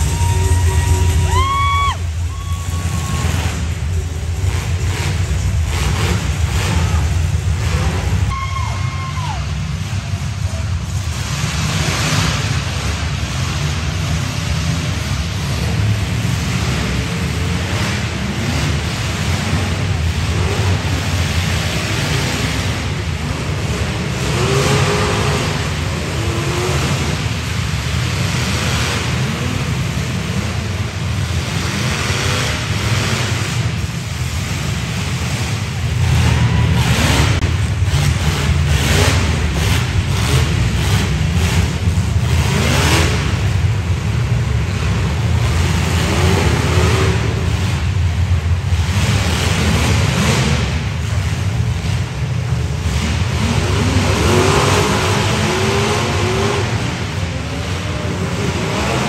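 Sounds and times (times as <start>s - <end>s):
car engines running and revving: 0.0s - 59.0s.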